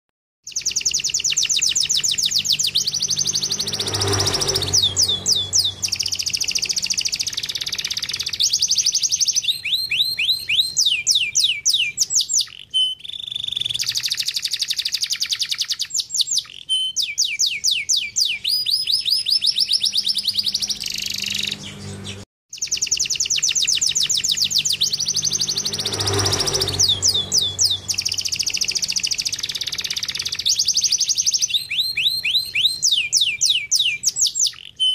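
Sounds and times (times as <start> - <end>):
canary singing trills: 0.4 - 34.9.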